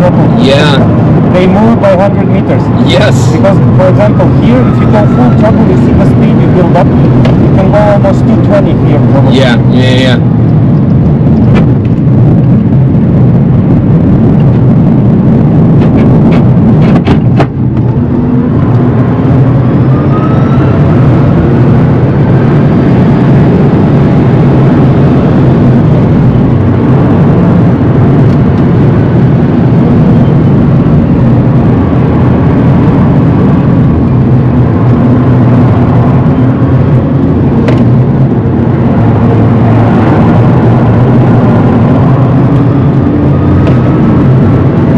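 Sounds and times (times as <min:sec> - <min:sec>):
road and tyre rumble: 0:00.0 - 0:44.9.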